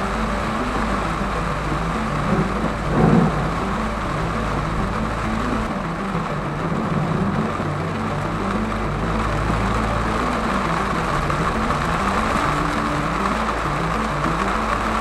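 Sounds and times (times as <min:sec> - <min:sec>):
background music: 0:00.0 - 0:15.0
steady rushing noise: 0:00.0 - 0:15.0.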